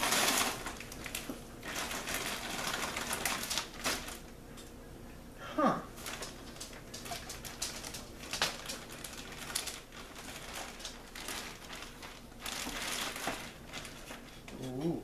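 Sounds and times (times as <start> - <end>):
plastic bag and paper crinkling: 0.0 - 4.3, 6.0 - 15.0.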